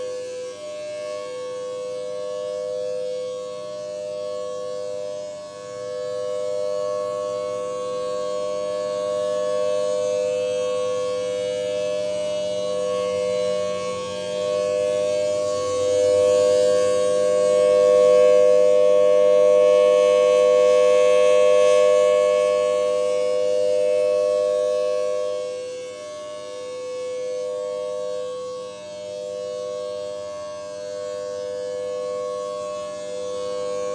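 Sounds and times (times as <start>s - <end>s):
warning siren steady tone: 0.0s - 33.9s.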